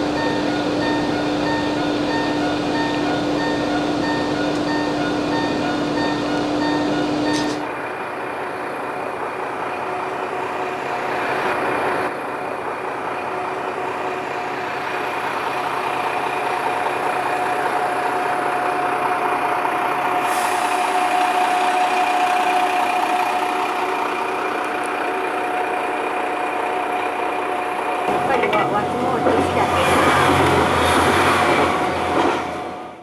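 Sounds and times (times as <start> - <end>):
diesel railcar engine drone: 0.0 - 33.0.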